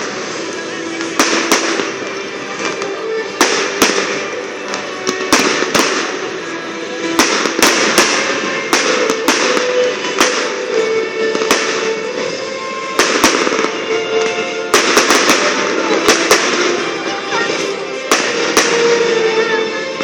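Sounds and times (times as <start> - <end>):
fireworks bangs: 0.0 - 20.0
music playing: 0.0 - 20.0.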